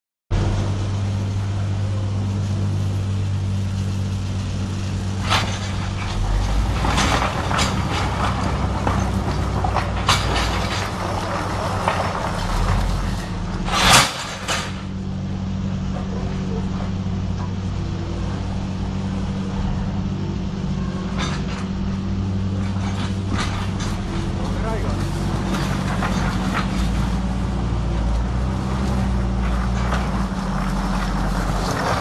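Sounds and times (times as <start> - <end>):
low mechanical hum: 0.3 - 32.0.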